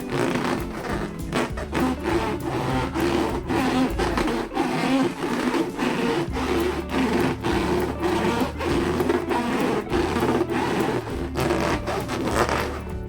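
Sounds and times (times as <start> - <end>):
balloon squeaks: 0.0 - 13.0
hands rubbing balloons: 0.0 - 13.0
scratchy strokes on balloons: 0.0 - 13.0.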